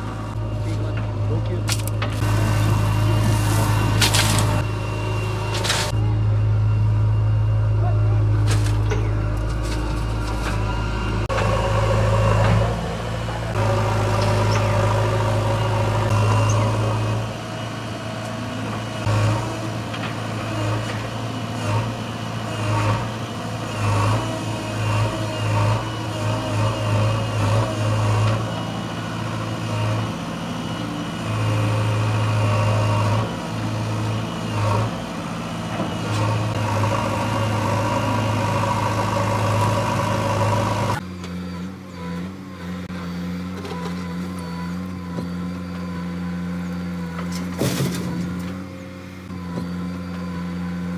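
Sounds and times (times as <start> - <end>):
digger diesel engine working: 0.0 - 50.9.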